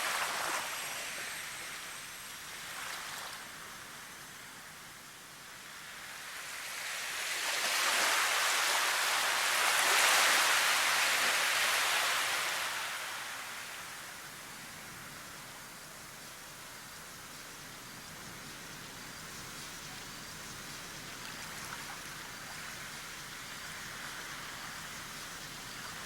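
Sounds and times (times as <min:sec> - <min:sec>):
rushing nature ambience: 0:00.0 - 0:26.0.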